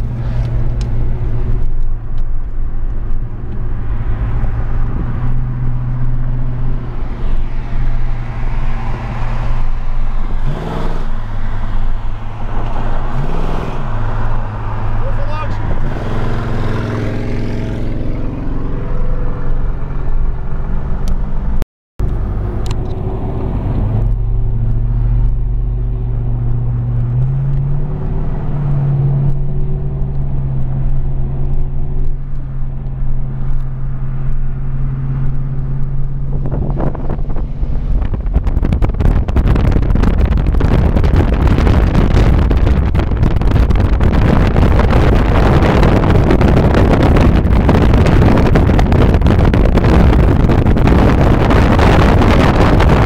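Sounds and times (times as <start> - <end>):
car engine drone: 0.0 - 53.0
wind and road noise: 0.0 - 53.0.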